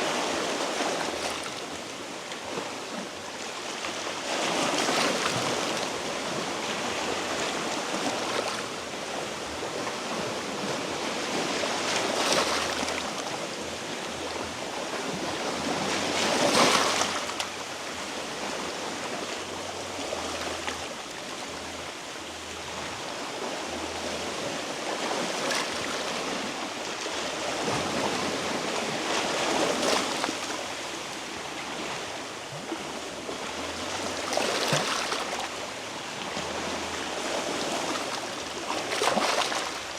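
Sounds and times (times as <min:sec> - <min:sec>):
waves washing against rocks: 0:00.0 - 0:19.4, 0:22.7 - 0:39.9.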